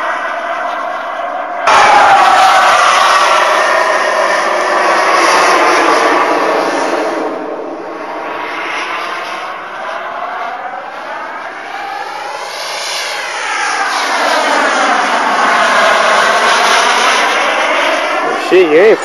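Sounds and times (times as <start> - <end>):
model jet engine whoosh: 0.0 - 19.0.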